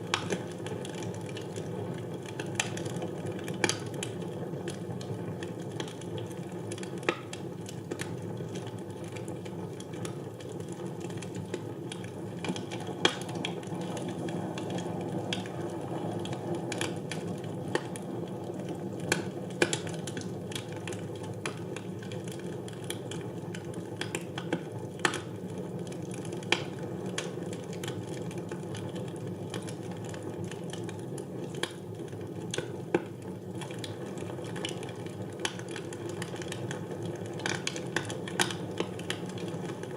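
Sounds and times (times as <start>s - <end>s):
loud fire snaps: 0.0s - 39.9s
wood fire crackling: 0.0s - 39.9s.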